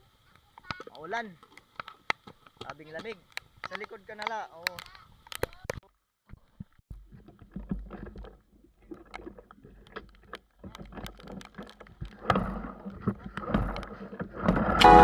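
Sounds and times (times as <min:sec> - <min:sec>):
raindrops tapping on camera: 0:00.3 - 0:14.8.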